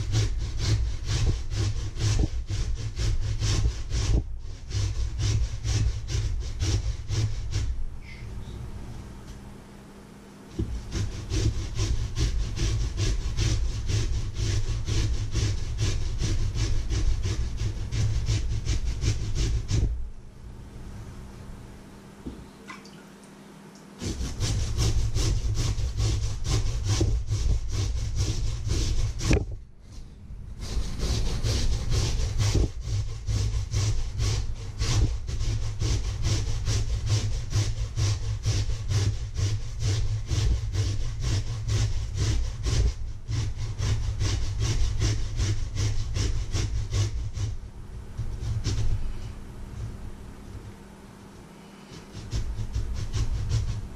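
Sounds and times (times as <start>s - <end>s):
potato grated on metal grater: 0.0s - 7.9s, 10.5s - 20.0s, 24.0s - 29.5s, 30.6s - 50.6s, 51.8s - 53.9s.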